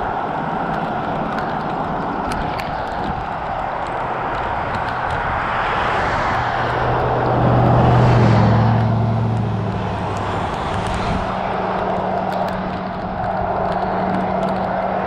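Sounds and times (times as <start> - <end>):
road and wind noise: 0.0 - 15.0
vehicle passing on wet road: 0.0 - 15.0.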